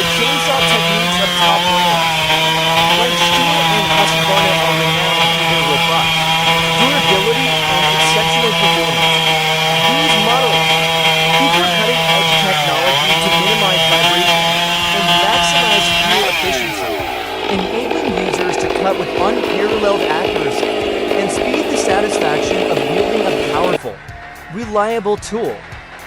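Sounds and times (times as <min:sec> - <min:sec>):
chainsaw cutting wood: 0:00.0 - 0:23.9.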